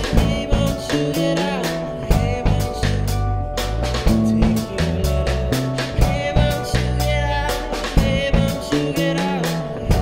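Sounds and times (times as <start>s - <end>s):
drum kit beat: 0.0s - 10.0s
stepping bass line: 0.0s - 10.0s.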